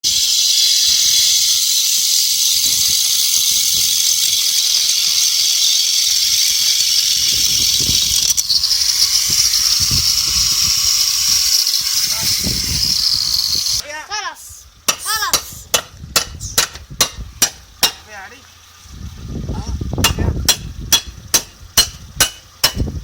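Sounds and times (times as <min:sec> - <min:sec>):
metal being cut: 0:00.0 - 0:13.8, 0:14.9 - 0:18.4, 0:20.0 - 0:22.9.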